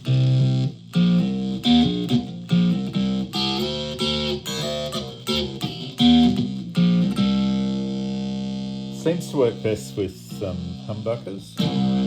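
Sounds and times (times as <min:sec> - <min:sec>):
distorted electric ukulele riff: 0:00.0 - 0:12.0.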